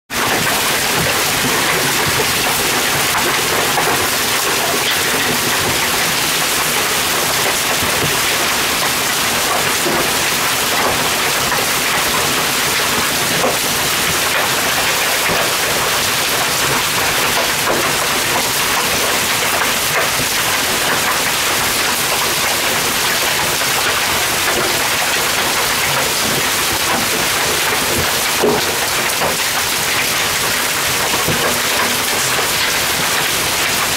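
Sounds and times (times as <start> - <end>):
hail and rain pelting ground: 0.1 - 33.9.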